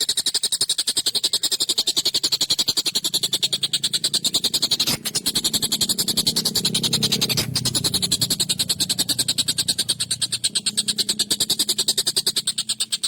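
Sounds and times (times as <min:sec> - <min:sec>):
kingfisher rattling chatter: 0:00.0 - 0:13.0
low steady hum: 0:01.9 - 0:13.0.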